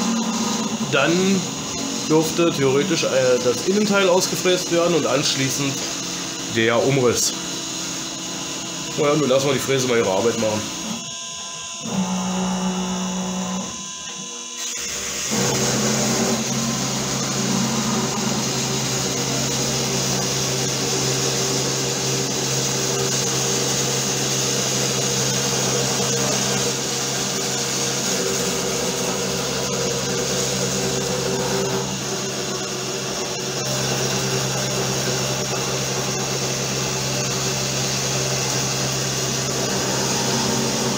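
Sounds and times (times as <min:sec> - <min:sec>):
router cutting plywood: 0:00.0 - 0:40.9.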